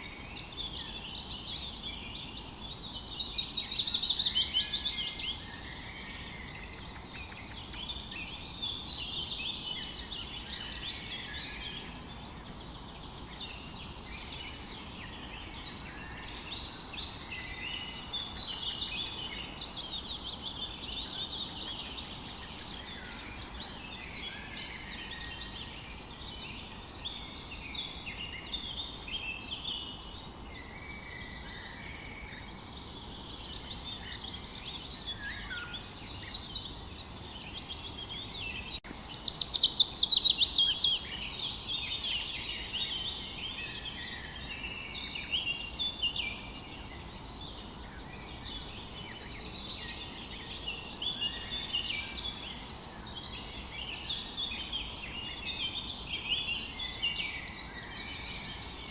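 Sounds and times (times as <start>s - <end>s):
faint background hiss: 0.0s - 58.9s
songbirds chirping and singing: 0.0s - 58.9s.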